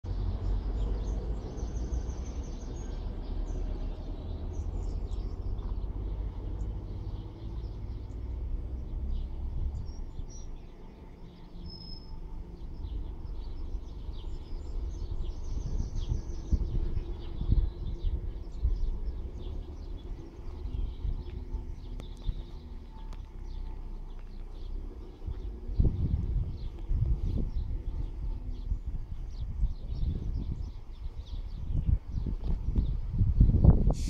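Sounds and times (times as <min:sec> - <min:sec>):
small birds chirping: 0:00.1 - 0:33.8
low outdoor rumble: 0:00.1 - 0:34.0.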